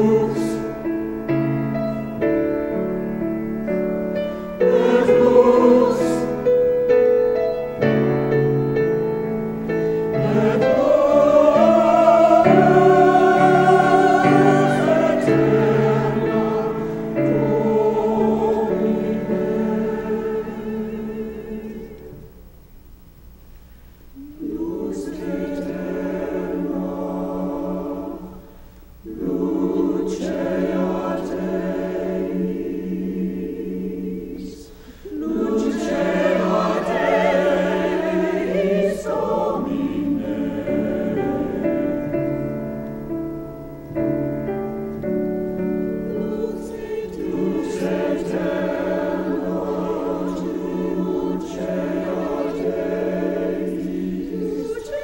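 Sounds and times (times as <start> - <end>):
choir singing held chords: 0.0 - 22.8, 23.9 - 55.0.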